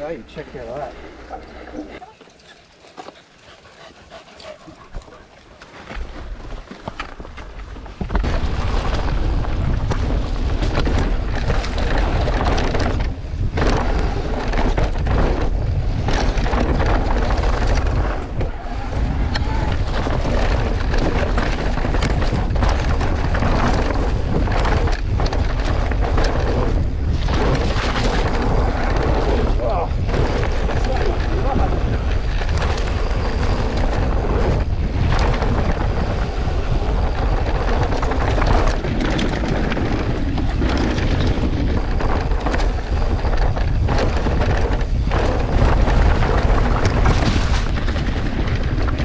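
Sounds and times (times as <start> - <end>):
mountain bike tyres rattling on trail: 1.9 - 49.0
wind buffeting microphone: 3.4 - 49.0.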